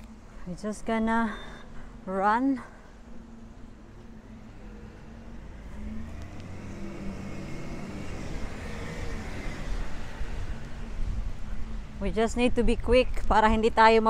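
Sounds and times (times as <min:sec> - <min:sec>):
car engine: 0:00.0 - 0:12.1
faint whine: 0:00.0 - 0:13.0.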